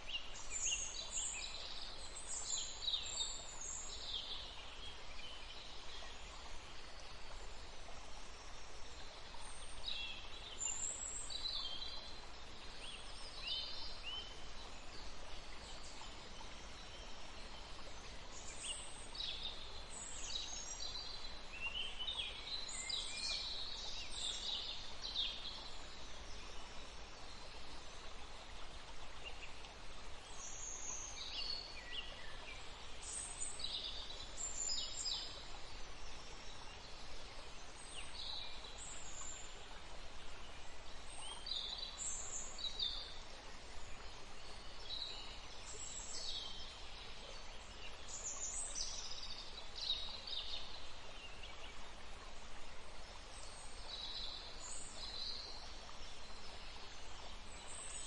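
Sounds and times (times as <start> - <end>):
flowing water: 0.0 - 58.0
songbirds chirping: 0.0 - 58.0.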